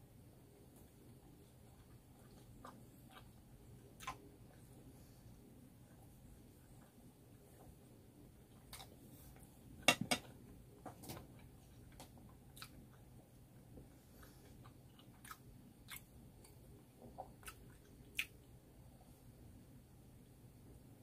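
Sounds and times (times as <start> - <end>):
soft chewing: 0.3 - 20.4.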